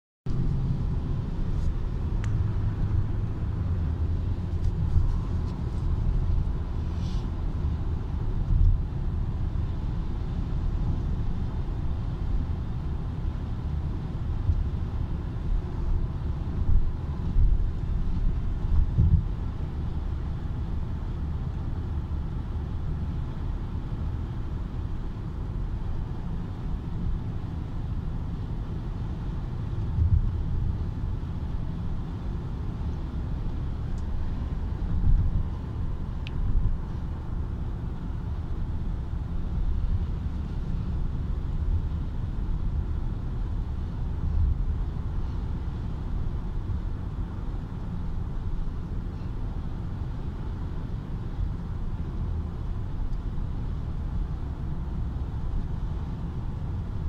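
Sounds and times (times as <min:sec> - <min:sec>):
car cabin road rumble: 0:00.2 - 0:57.0.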